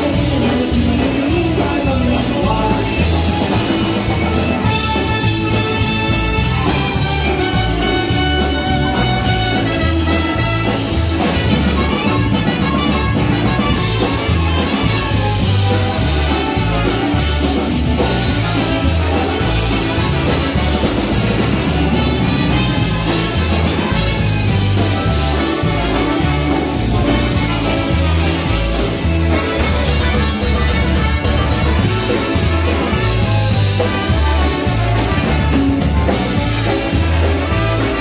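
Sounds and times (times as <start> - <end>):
electric bass: 0.0 - 38.0
polka band playing: 0.0 - 38.0.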